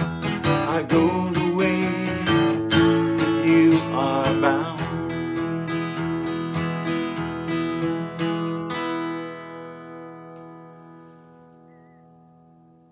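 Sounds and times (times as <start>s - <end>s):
acoustic guitar strumming: 0.0s - 12.9s
sliding guitar melody: 0.0s - 12.9s.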